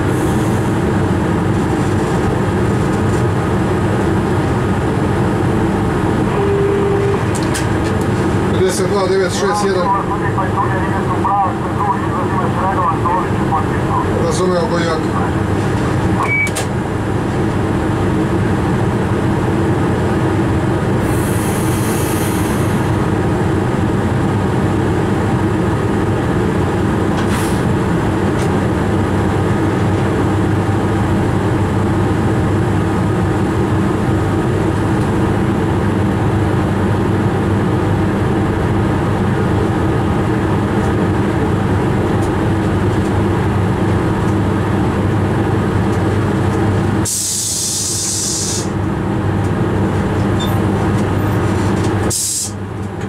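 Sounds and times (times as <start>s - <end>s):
locomotive cab hum and rushing: 0.0s - 53.0s.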